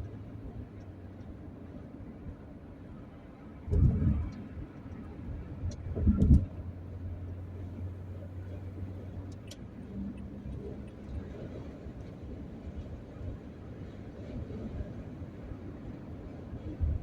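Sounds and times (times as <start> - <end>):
vehicle ride noise: 0.0 - 17.0.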